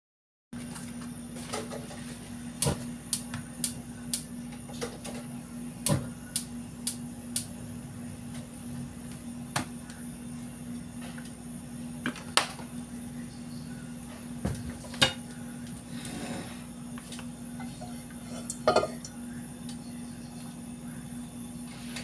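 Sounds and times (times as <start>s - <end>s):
steady low hum: 0.6s - 22.0s.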